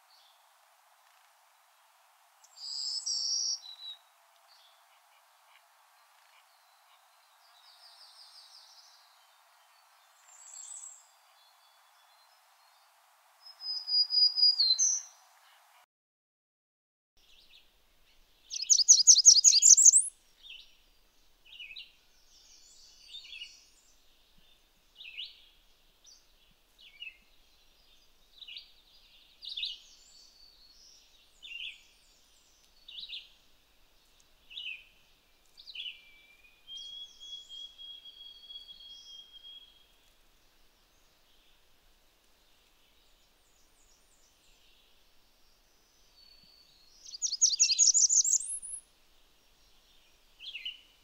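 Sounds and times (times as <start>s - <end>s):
warbler song: 0.0s - 0.5s, 2.4s - 15.8s, 17.2s - 51.0s.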